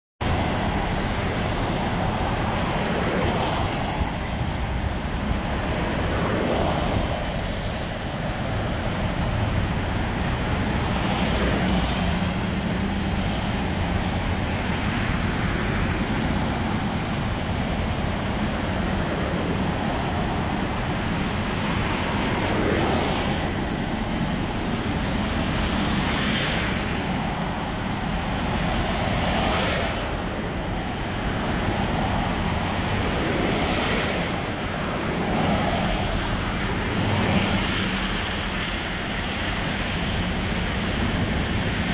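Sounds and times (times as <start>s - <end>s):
cars passing on wet road: 0.2s - 41.9s
wind rumble on microphone: 0.2s - 41.9s.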